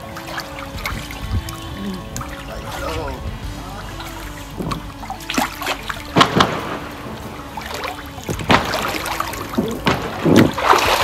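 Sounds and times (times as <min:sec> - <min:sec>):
water splashing in pool: 0:00.0 - 0:11.0.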